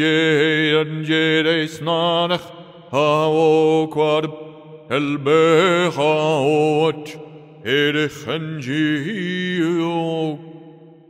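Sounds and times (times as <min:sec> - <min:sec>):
man chanting: 0:00.0 - 0:10.7.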